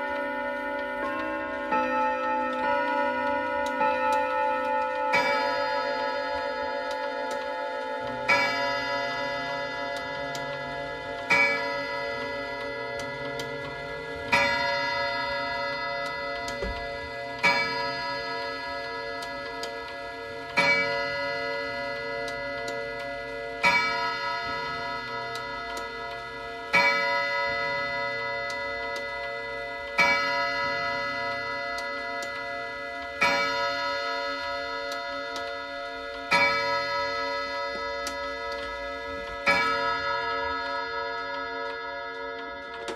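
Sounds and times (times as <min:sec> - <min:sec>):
clock striking on gong rods: 0:00.0 - 0:42.9.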